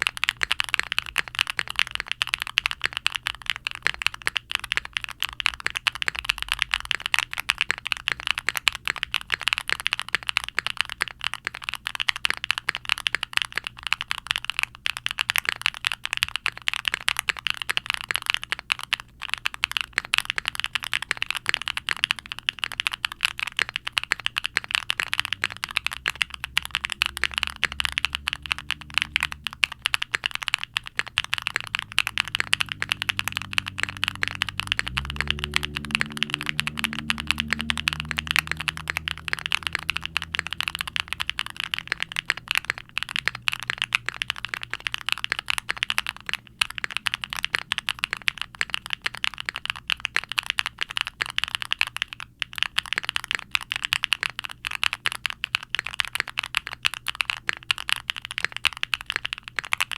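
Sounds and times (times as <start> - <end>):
fast mechanical keyboard typing: 0.0 - 59.9.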